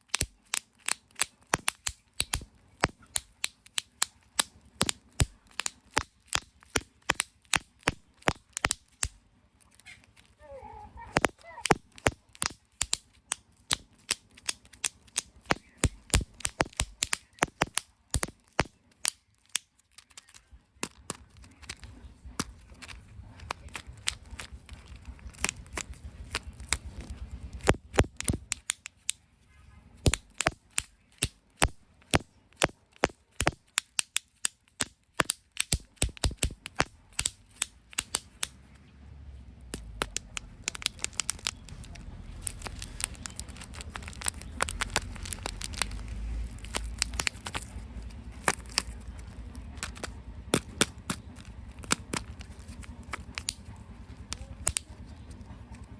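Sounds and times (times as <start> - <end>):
plastic toys clicking and crackling: 0.0 - 38.9, 39.5 - 55.9.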